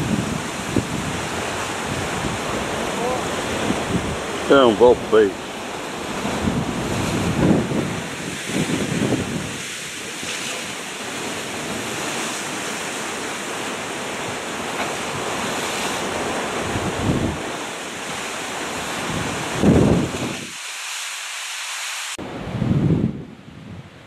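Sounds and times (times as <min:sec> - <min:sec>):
wind buffeting microphone: 0:00.0 - 0:20.6, 0:22.2 - 0:24.0
sea surf on rocks: 0:00.0 - 0:24.0.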